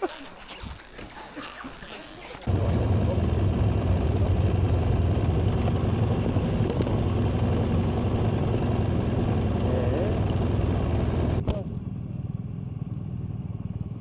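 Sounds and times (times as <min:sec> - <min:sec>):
vehicle engine running: 0:02.5 - 0:14.0.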